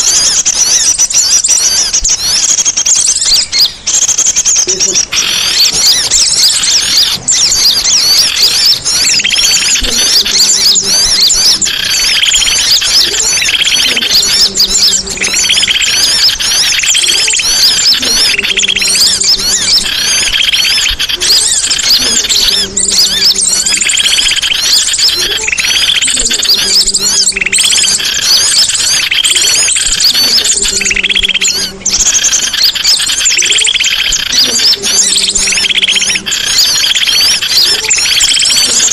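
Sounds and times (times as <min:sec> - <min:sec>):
lower repeated bird call: 0:00.0 - 0:38.9
songbirds chirping: 0:00.0 - 0:38.9.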